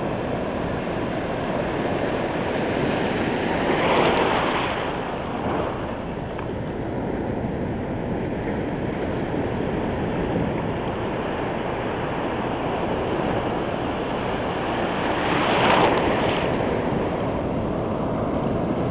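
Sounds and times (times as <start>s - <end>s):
surf washing onto beach: 0.0s - 18.9s
wave breaking: 0.0s - 18.9s.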